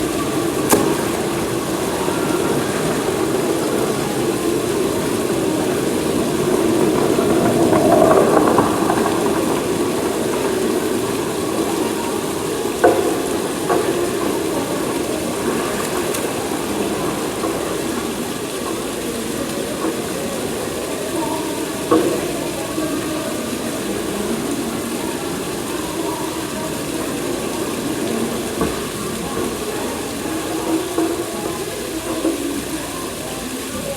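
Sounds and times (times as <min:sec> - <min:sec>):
waterfall rushing into pool: 0:00.0 - 0:33.9.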